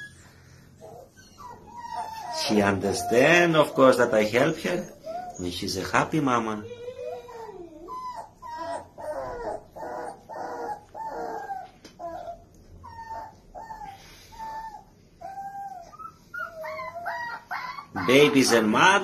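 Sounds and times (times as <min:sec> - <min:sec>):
dogs whimpering: 0:00.0 - 0:19.0.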